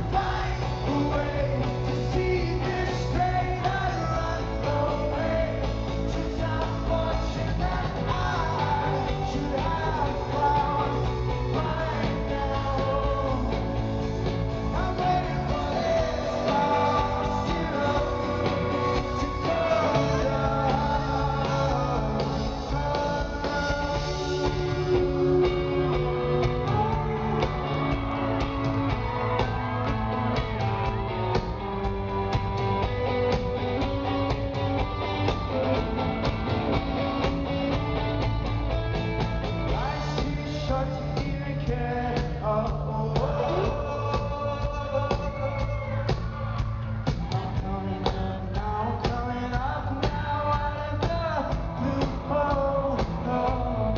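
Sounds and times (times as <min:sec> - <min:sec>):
person singing: 0:00.0 - 0:31.5, 0:39.7 - 0:53.9
live rock band playing: 0:00.0 - 0:53.9.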